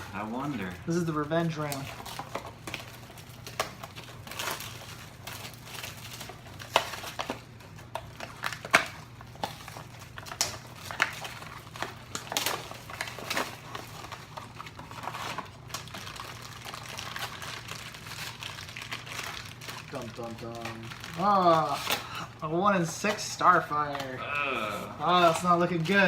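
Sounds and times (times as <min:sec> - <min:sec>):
cardboard and foil rustling: 0:00.0 - 0:26.0.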